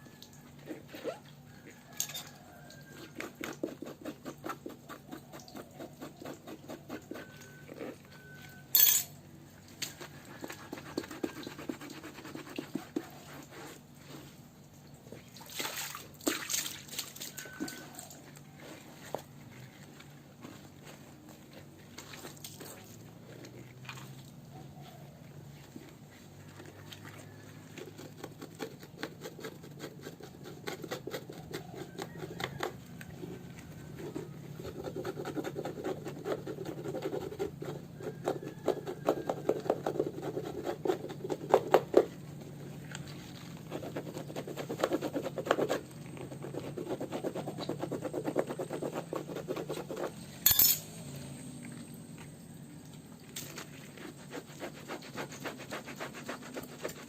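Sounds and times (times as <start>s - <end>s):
rubbing and scraping with crackles: 0.0s - 15.4s, 16.1s - 57.0s.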